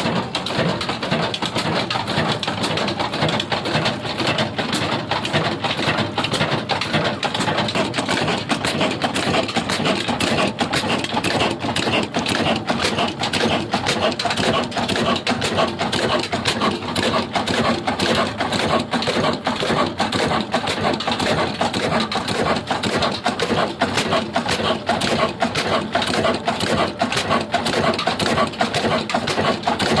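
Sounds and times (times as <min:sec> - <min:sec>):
diesel engine knocking: 0:00.0 - 0:30.0.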